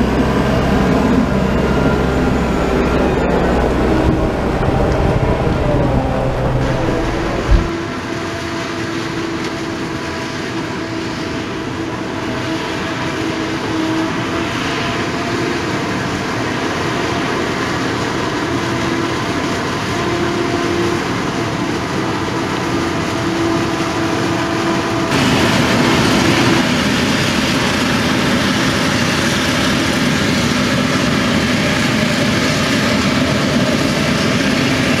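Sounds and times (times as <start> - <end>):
forage harvester and tractor running: 0.0 - 35.0.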